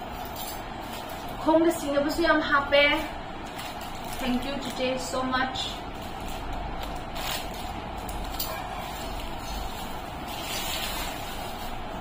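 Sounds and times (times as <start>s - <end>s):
plastic bag rustling and crinkling: 0.4s - 1.5s, 2.8s - 12.0s.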